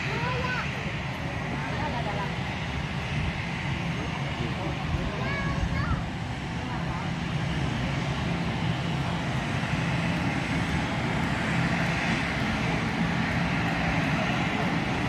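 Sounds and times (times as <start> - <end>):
airliner engines rushing: 0.0 - 15.0.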